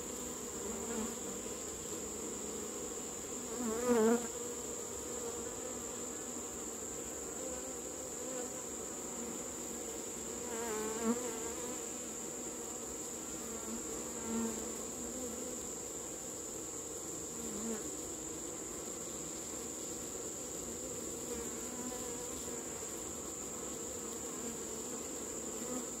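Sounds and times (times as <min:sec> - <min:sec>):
bee colony humming: 0:00.0 - 0:26.0
single bees buzzing close: 0:00.0 - 0:26.0.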